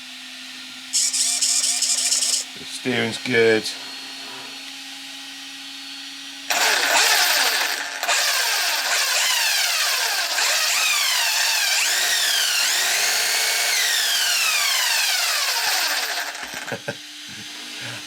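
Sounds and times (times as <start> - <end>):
electric motor whine revving: 0.7 - 2.6, 3.8 - 18.0.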